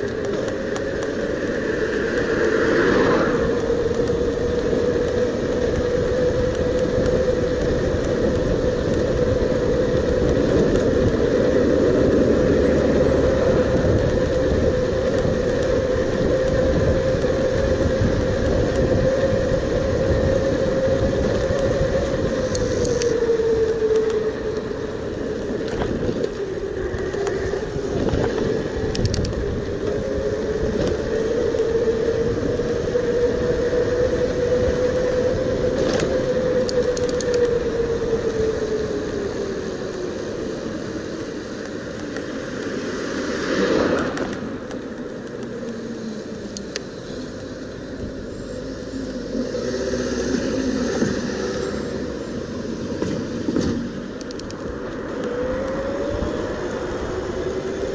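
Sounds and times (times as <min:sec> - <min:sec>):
electric bike motor whine: 0:00.0 - 0:57.9
wind rushing on microphone: 0:00.0 - 0:57.9.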